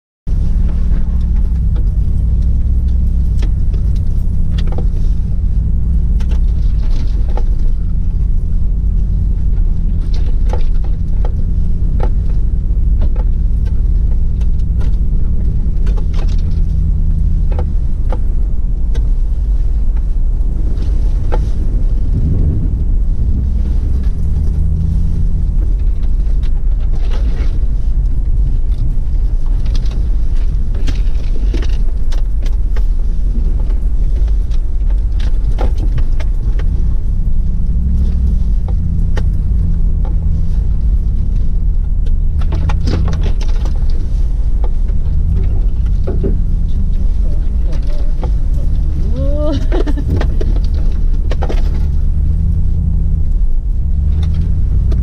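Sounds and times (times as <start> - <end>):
engine running at low revs: 0.3 - 55.0
truck clicks and rattles: 0.3 - 55.0.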